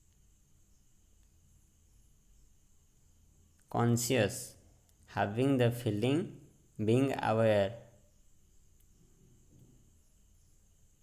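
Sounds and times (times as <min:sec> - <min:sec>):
faint hum and hiss: 0:00.0 - 0:11.0.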